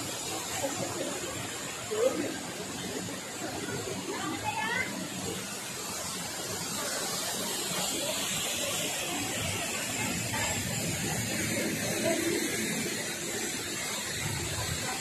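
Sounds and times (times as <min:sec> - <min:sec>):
waterfall and stream running: 0:00.0 - 0:15.0.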